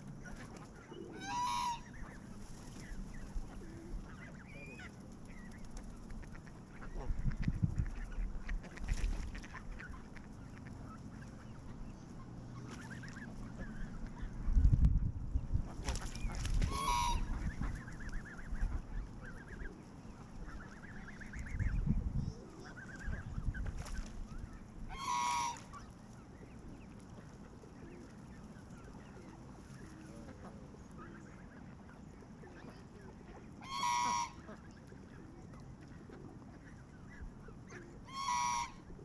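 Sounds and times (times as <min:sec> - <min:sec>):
geese honking: 0:00.1 - 0:14.5, 0:15.7 - 0:21.8, 0:24.8 - 0:35.2, 0:35.8 - 0:39.0.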